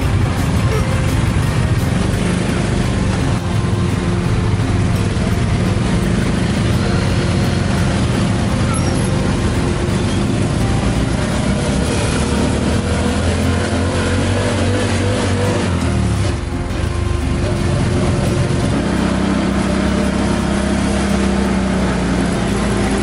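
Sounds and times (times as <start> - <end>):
traffic of motorbikes: 0.0 - 23.0
tuk tuk engine running: 0.0 - 23.0.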